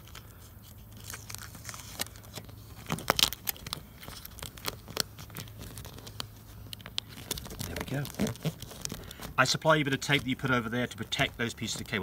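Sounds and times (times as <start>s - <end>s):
foil tape crinkling: 0.0s - 12.0s.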